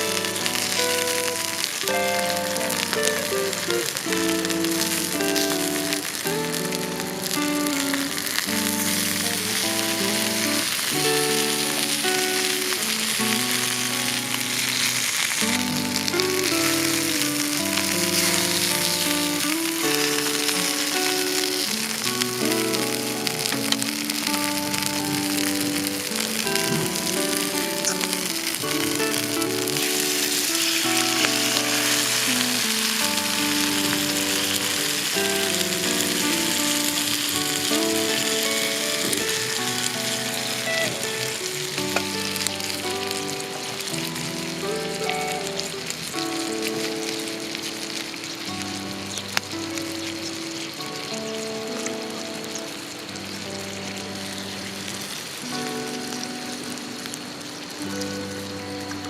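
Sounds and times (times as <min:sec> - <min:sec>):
background music with held notes: 0:00.0 - 0:59.0
crackling hiss: 0:00.0 - 0:59.0.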